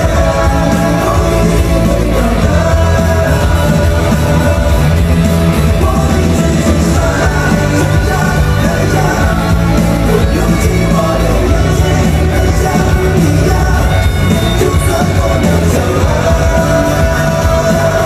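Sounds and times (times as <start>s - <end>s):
heavy steady bass: 0.0s - 18.0s
live pop-rock band: 0.0s - 18.0s
man singing: 0.0s - 18.0s.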